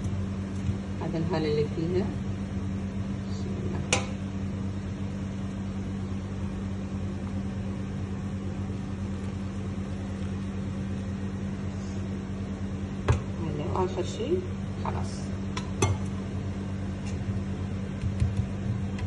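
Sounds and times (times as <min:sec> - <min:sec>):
kitchen appliance humming: 0:00.0 - 0:19.0.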